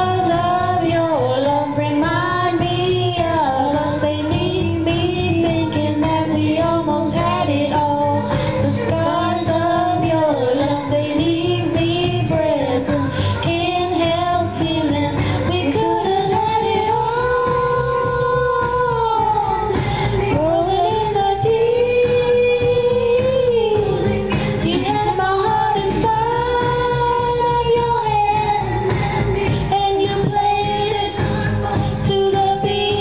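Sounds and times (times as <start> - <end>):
backing track music: 0.0 - 33.0
women singing into microphones: 0.0 - 33.0.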